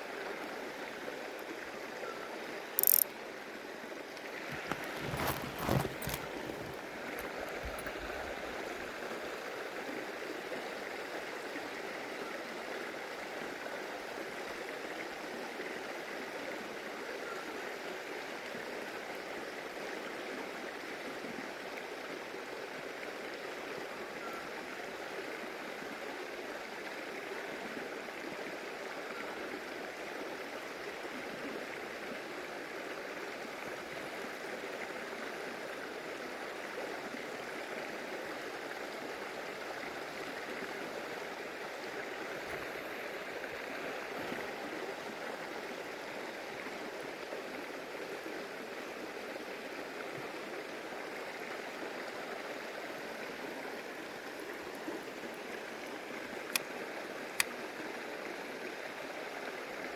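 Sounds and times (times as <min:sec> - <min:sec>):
stream water running over rocks: 0:00.0 - 0:59.9.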